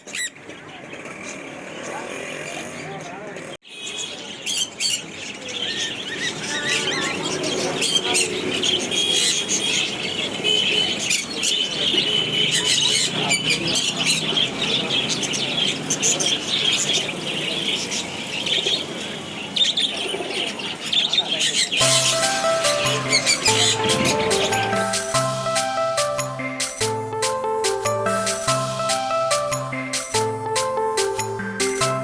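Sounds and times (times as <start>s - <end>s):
flock of birds chirping and squawking: 0.0s - 26.2s.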